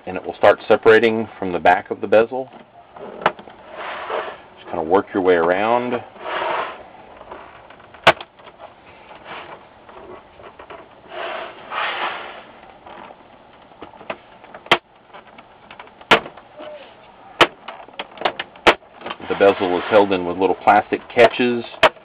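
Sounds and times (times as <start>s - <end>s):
plastic scraping and rubbing: 2.5s - 22.0s.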